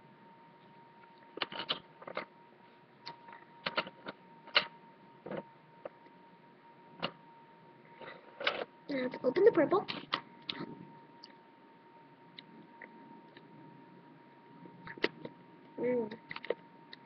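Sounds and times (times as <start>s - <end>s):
faint high tone hum: 0.0s - 17.0s.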